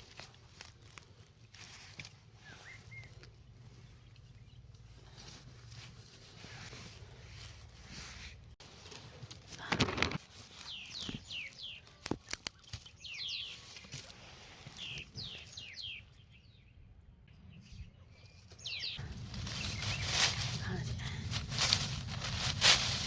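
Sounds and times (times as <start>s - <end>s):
rustling: 0.0s - 15.6s, 18.5s - 23.0s.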